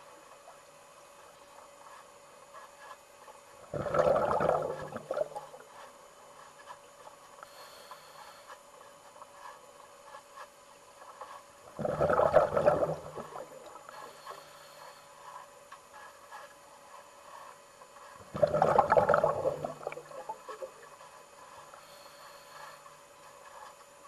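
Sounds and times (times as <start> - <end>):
pool water churning and gurgling: 0.0 - 24.0.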